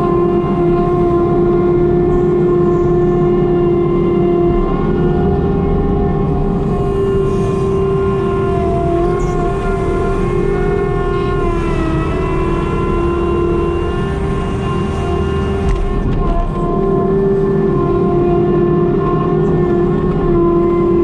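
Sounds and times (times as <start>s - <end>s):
farm machinery engine whining: 0.0s - 21.0s.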